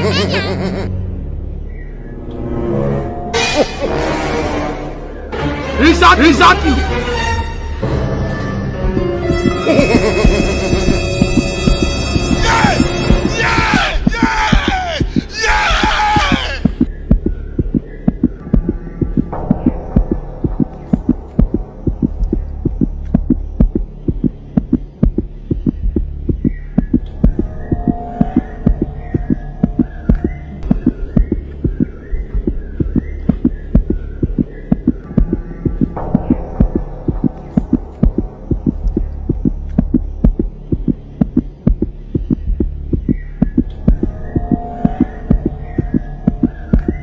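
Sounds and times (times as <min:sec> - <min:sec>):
deep pulsing beat: 0:08.8 - 0:47.0.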